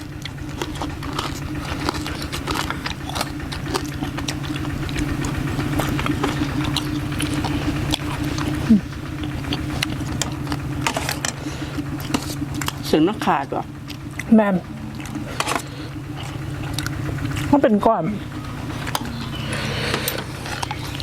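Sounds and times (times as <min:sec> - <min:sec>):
person chewing crunchy food: 0:00.0 - 0:12.9, 0:13.8 - 0:17.5, 0:18.3 - 0:21.0
low mechanical hum: 0:00.0 - 0:21.0.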